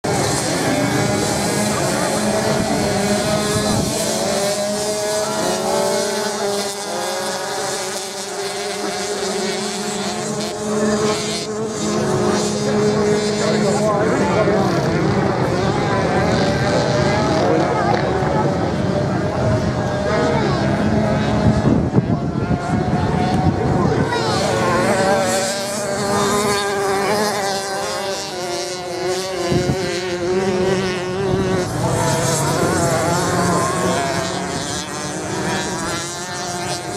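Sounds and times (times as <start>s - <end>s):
motocross bikes buzzing past: 0.0s - 36.9s.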